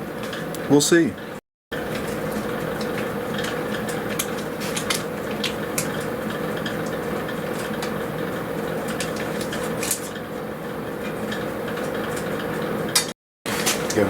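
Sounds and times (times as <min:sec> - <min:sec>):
stove humming: 0:00.0 - 0:14.0.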